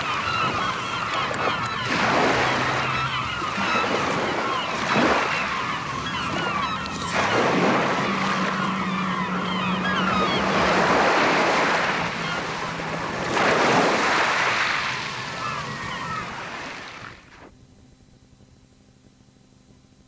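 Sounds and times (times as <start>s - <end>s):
seagulls calling: 0.0s - 17.2s
surf surging: 0.0s - 17.2s.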